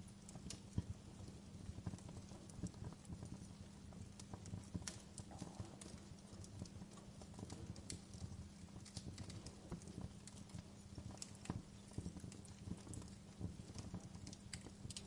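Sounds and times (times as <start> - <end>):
low steady fire rumble: 0.0 - 15.0
wood fire crackling: 0.0 - 15.0.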